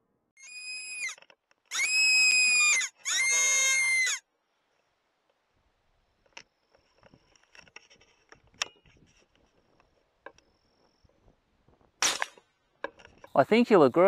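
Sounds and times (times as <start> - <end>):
rustles: 1.0 - 13.4.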